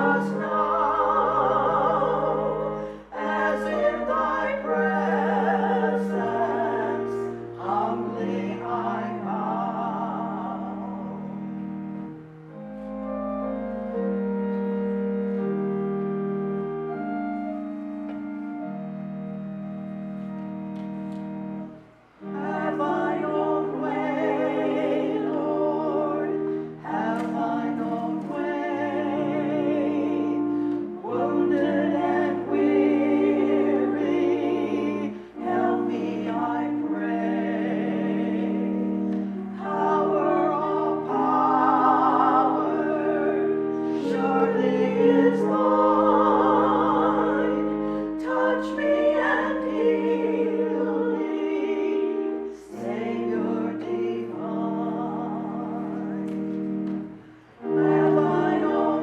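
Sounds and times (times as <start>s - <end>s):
voices singing a hymn: 0.0s - 19.6s, 20.2s - 59.0s
sustained keyboard chords: 0.0s - 59.0s.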